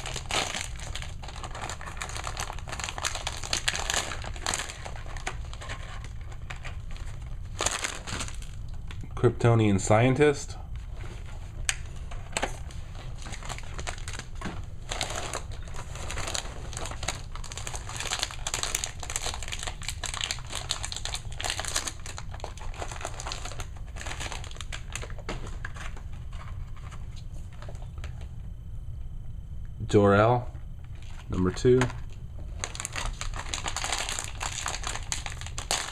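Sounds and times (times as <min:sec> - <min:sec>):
plastic packaging crinkling: 0:00.0 - 0:09.0, 0:11.6 - 0:28.2, 0:30.9 - 0:35.9.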